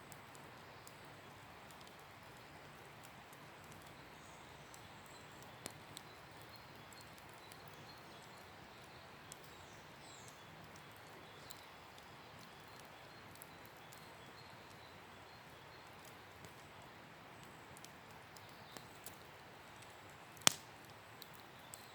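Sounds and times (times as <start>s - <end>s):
campfire crackling and popping: 0.0s - 21.9s.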